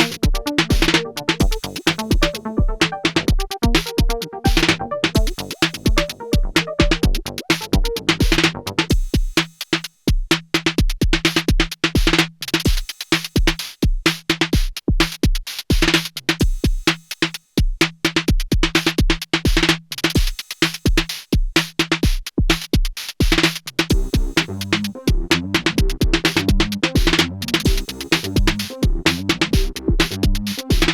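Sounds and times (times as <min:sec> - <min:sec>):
techno drum machine pattern: 0:00.0 - 0:30.9.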